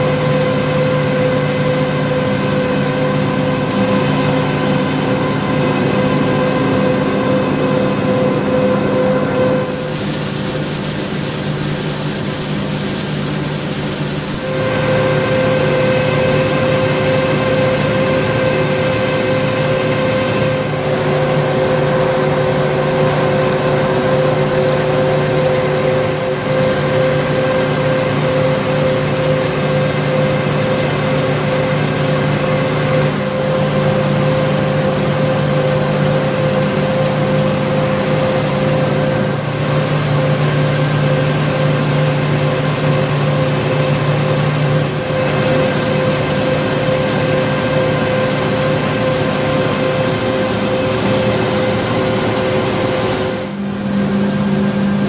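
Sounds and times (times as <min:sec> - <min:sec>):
harvester machine drone: 0:00.0 - 0:55.0.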